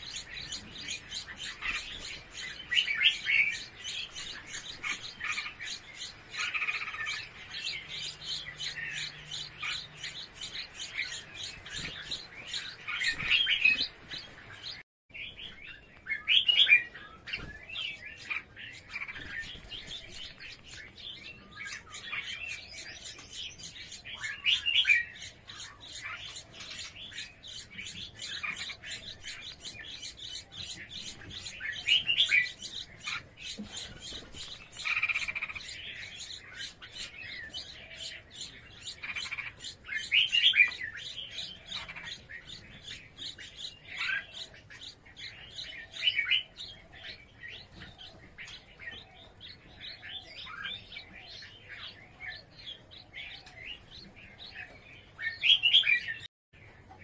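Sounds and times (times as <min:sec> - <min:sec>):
birds chirping rapidly: 0:00.0 - 0:57.0
loud bird calls: 0:00.0 - 0:57.0.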